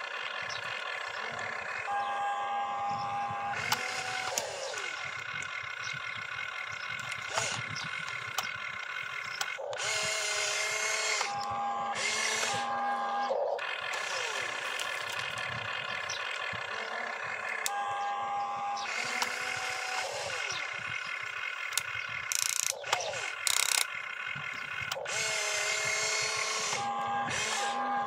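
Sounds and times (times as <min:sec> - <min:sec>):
electric motors whining: 0:00.0 - 0:28.0
loud rough bursts: 0:02.8 - 0:17.8, 0:18.7 - 0:28.0.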